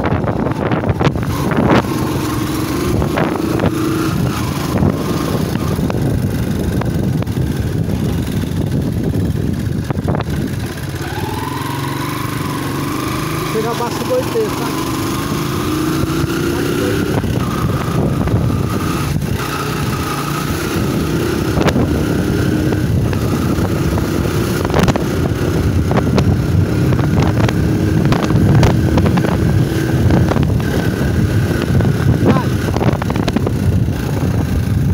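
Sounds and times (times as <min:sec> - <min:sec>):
wind noise on microphone: 0:00.0 - 0:13.5, 0:14.8 - 0:34.9
motorcycle engine running: 0:00.0 - 0:34.9.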